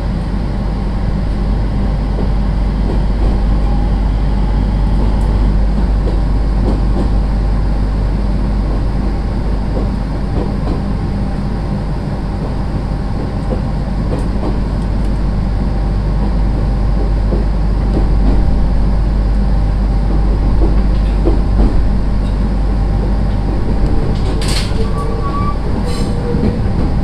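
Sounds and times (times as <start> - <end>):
train rumbling from inside: 0.0 - 27.0.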